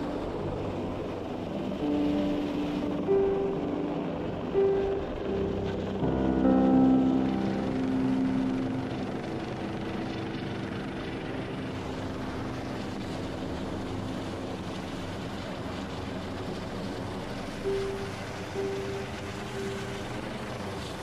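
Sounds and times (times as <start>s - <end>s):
helicopter rotor and turbine drone: 0.0s - 21.0s.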